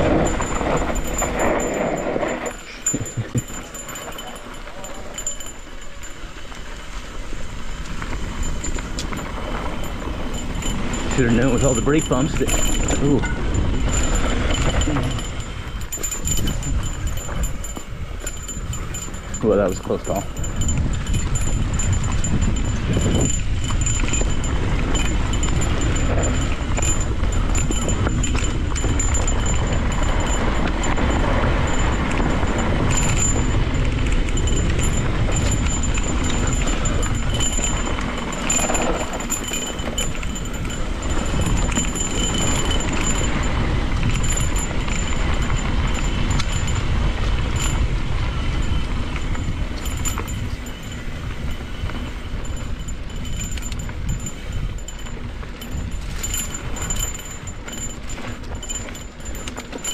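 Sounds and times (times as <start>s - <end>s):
bike clattering over bumps: 0.0s - 59.9s
tyres on dirt: 0.0s - 59.9s
wind rushing over microphone: 0.0s - 59.9s.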